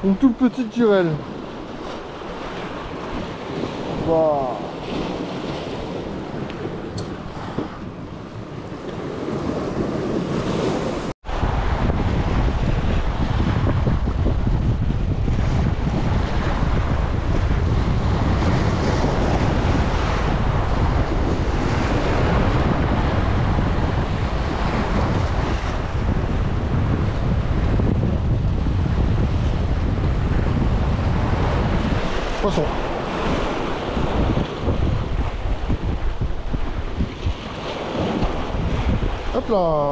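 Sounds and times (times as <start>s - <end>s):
sea waves washing on shore: 0.0s - 39.9s
wind buffeting microphone: 0.0s - 39.9s.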